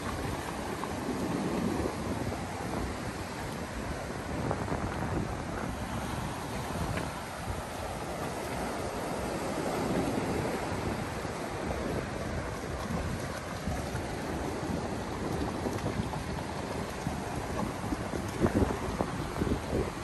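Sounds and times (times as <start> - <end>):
surf washing over rocks: 0.0 - 20.0
wind rumbling on microphone: 0.0 - 20.0.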